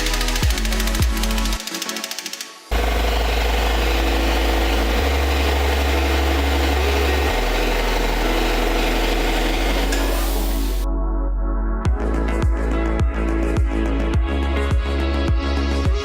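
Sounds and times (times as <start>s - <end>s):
electronic music: 0.0s - 16.0s
deep sustained bass: 2.7s - 16.0s.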